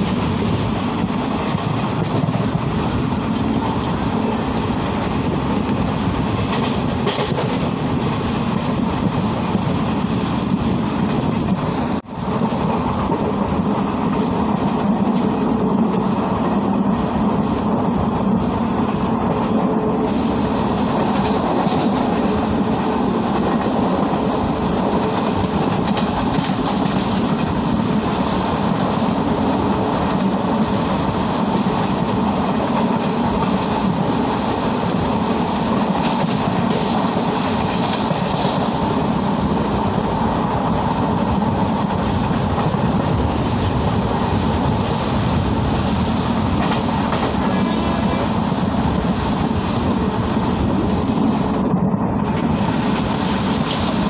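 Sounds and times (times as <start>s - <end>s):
train wheels on track: 0.0s - 54.0s.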